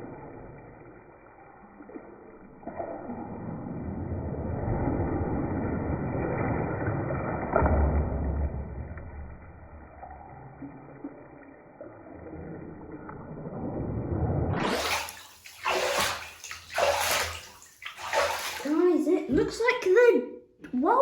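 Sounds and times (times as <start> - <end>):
water sloshing in a bathtub: 0.0 - 21.0.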